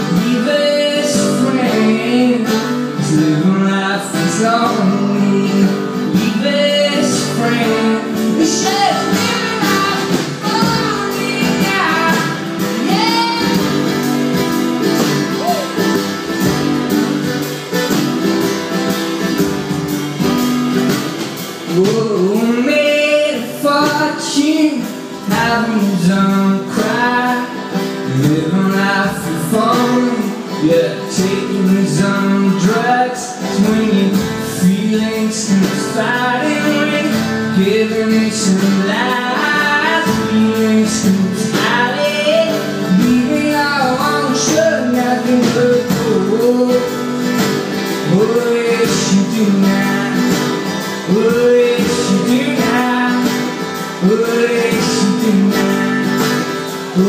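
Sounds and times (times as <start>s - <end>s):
man singing: 0.0s - 16.4s, 21.4s - 57.0s
acoustic guitar strumming: 0.0s - 57.0s.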